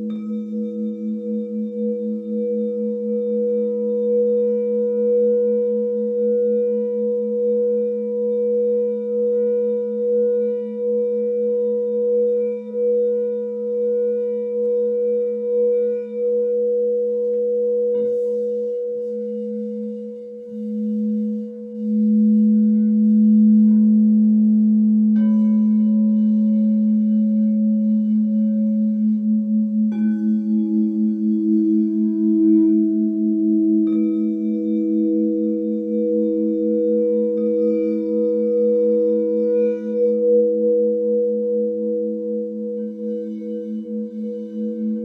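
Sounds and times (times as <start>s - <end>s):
singing bowls sustained tones: 0.0s - 45.0s.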